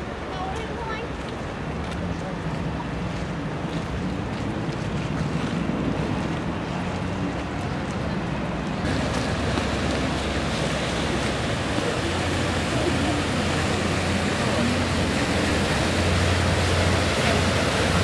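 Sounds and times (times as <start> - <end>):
rush of outdoor noise: 0.0 - 18.0.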